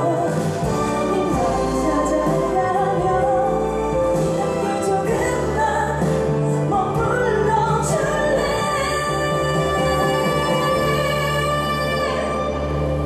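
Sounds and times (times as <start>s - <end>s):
instrumental accompaniment: 0.0s - 13.0s
woman singing a slow ballad: 0.0s - 13.0s.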